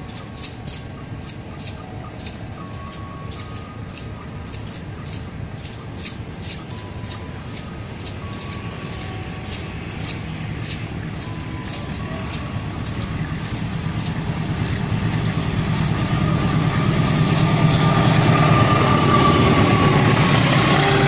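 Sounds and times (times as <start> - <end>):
distant locomotive engine rumble: 0.0 - 21.0.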